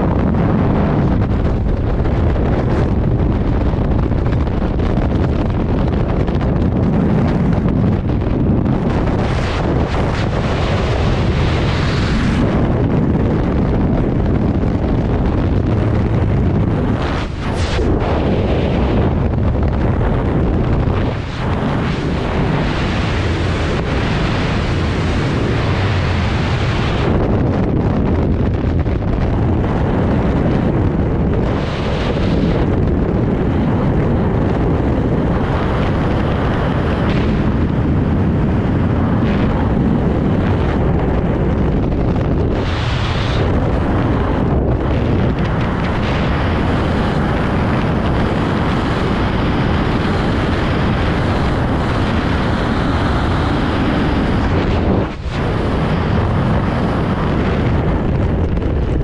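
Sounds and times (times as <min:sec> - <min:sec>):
rushing wind on microphone: 0:00.0 - 0:59.0.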